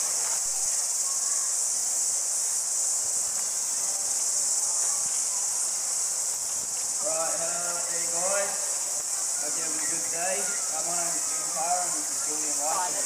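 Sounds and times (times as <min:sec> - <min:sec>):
cicadas chorus: 0:00.0 - 0:13.0.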